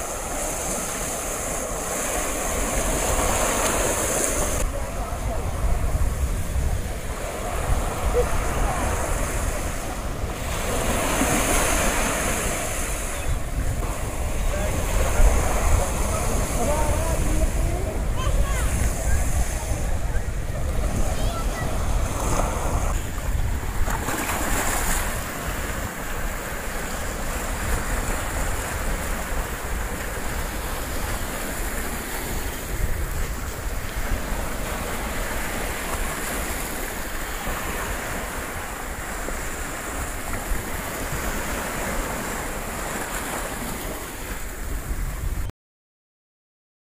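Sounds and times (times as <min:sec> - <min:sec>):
waves washing over rocky shore: 0:00.0 - 0:45.1
wind rumble on microphone: 0:00.0 - 0:45.5.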